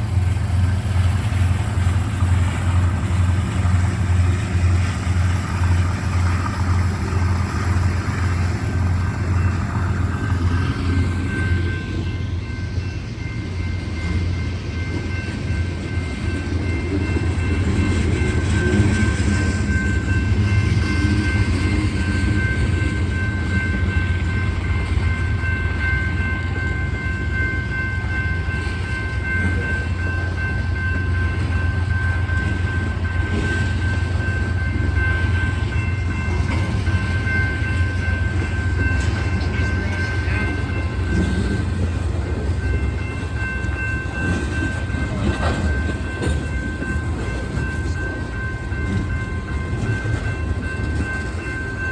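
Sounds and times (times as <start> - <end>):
freight train cars rumbling: 0.0 - 51.9.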